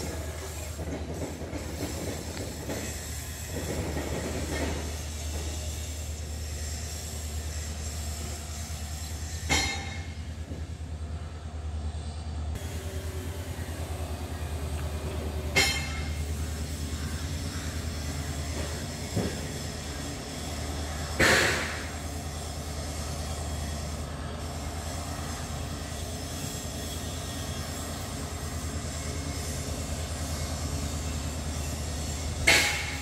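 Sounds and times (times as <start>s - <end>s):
diesel locomotive engine rumble: 0.0s - 33.0s.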